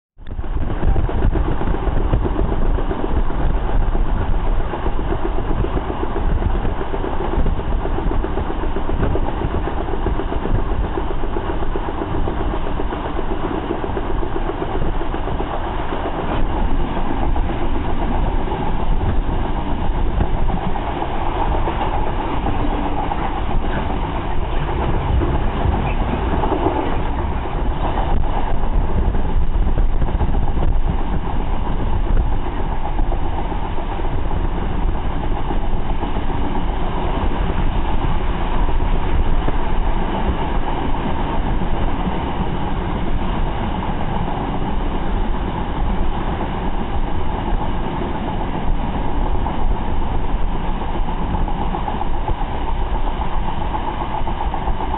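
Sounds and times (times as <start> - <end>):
rushing air: 0.2 - 54.9
train wheels rumbling on rails: 0.2 - 54.9.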